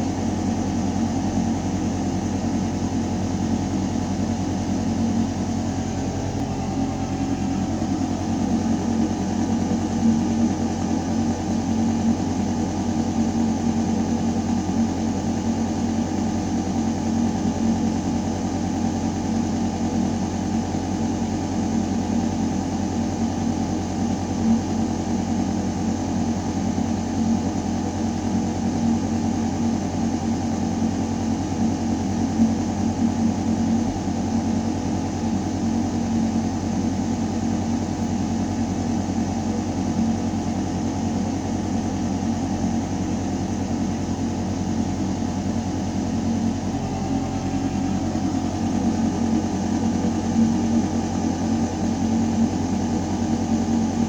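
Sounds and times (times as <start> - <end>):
ventilation system humming: 0.0 - 54.0.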